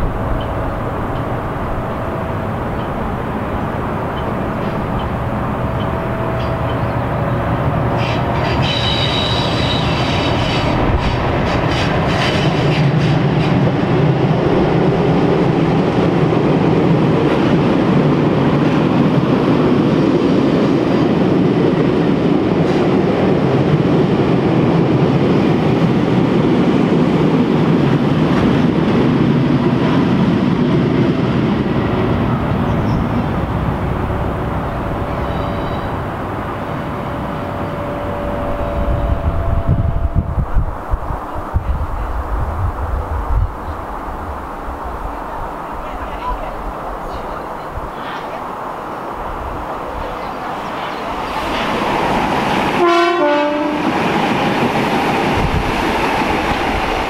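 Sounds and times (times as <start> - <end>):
diesel locomotive engine growl: 0.0 - 57.0.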